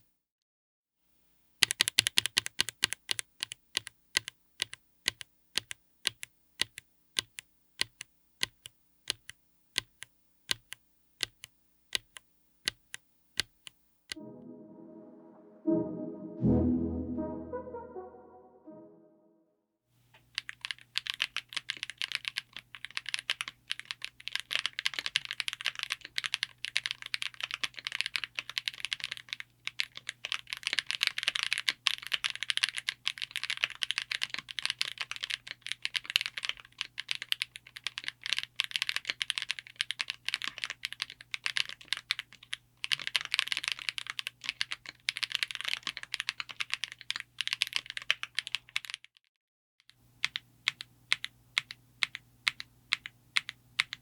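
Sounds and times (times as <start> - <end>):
typing on mechanical keyboard: 1.6 - 13.8, 20.3 - 49.2, 50.2 - 54.0.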